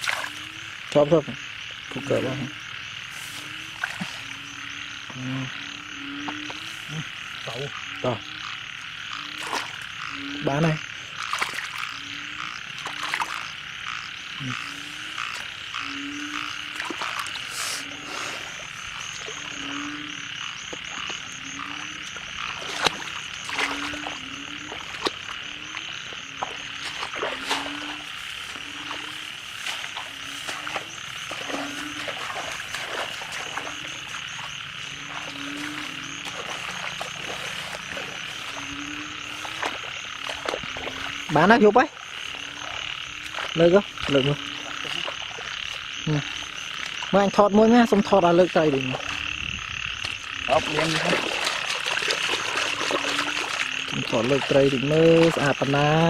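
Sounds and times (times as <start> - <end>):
frogs croaking: 0.0 - 56.0
high-pitched frog chorus: 0.0 - 56.0.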